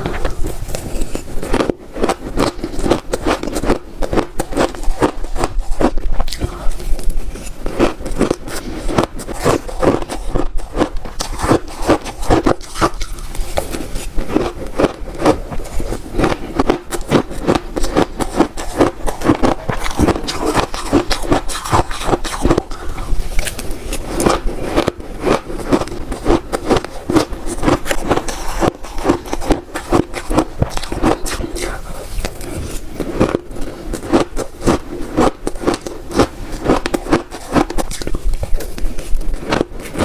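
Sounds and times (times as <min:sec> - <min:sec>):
ice being chewed crunching: 0:00.0 - 0:40.0.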